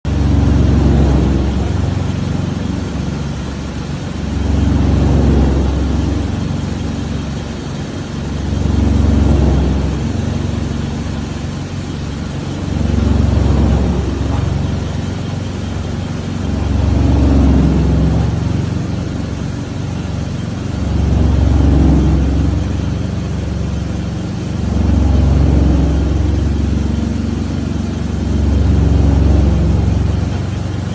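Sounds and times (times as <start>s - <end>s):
wood chipper humming: 0.1s - 30.9s.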